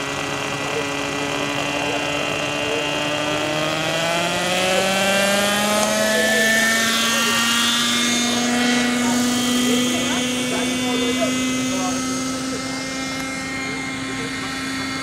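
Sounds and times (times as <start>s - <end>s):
model helicopter engine running: 0.0s - 15.0s.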